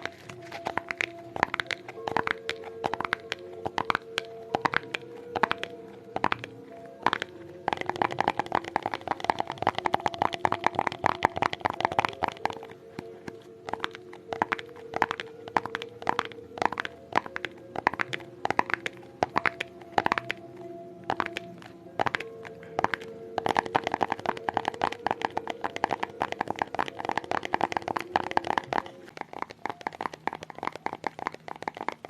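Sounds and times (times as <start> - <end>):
tapping on hard object: 0.0 - 20.4, 21.1 - 32.0.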